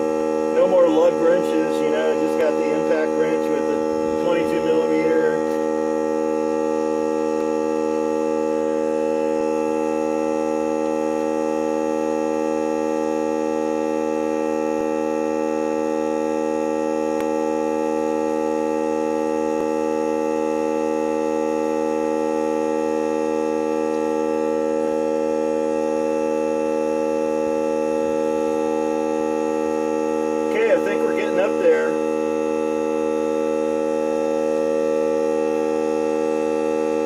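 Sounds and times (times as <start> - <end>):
air compressor droning: 0.0 - 37.0.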